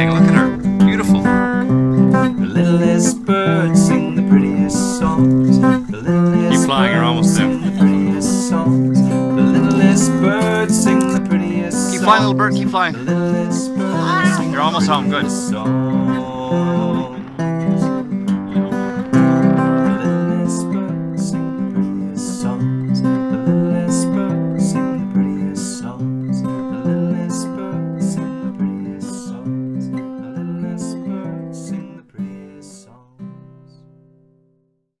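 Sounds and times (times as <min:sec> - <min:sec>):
strummed acoustic guitar music: 0:00.0 - 0:34.7.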